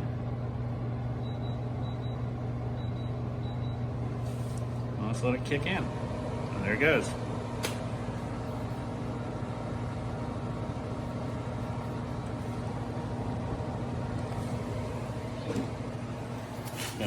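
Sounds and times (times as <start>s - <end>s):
air conditioner humming: 0.0s - 17.0s
fan air noise: 0.0s - 17.0s.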